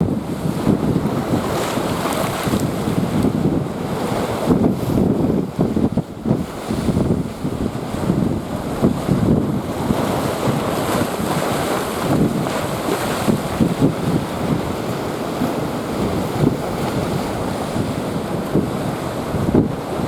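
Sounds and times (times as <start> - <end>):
waves breaking: 0.0 - 20.0
wind buffeting microphone: 0.0 - 20.0.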